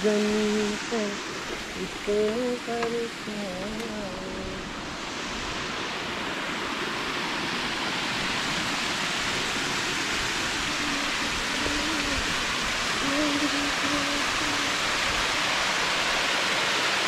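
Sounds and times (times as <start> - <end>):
faint humming: 0.0 - 8.4, 9.9 - 16.1
rushing water: 0.0 - 17.0.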